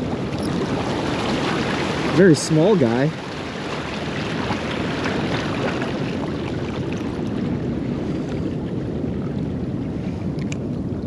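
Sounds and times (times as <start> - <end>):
ocean surf: 0.0 - 10.7
wind buffeting microphone: 0.0 - 11.0.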